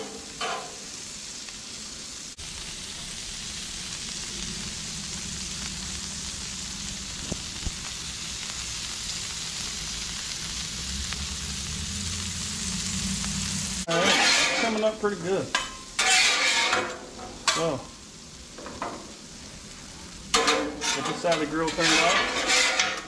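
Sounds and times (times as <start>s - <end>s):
asparagus sizzling on a griddle: 0.0s - 23.0s.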